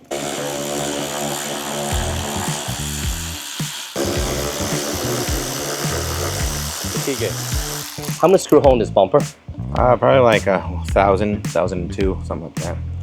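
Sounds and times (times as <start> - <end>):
background music with bass line: 1.8 - 13.0.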